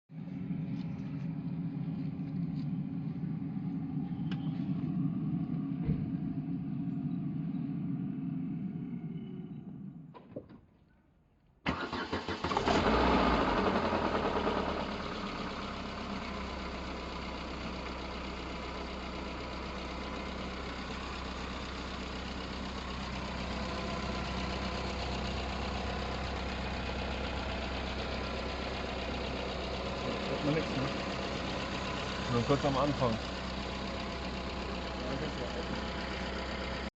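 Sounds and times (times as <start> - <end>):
car engine idling: 0.1 - 10.4, 11.7 - 36.9.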